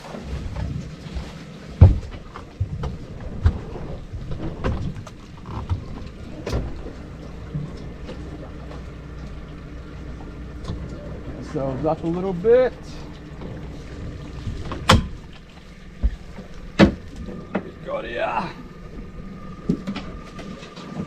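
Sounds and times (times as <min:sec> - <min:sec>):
boat pushing through branches: 0:00.0 - 0:21.0
steady low hum: 0:00.2 - 0:21.0.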